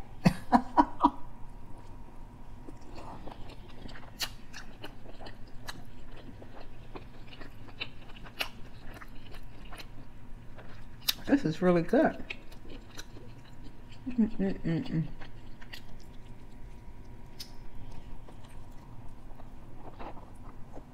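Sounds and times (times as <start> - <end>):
person chewing chicken: 2.6 - 11.4, 12.1 - 20.9.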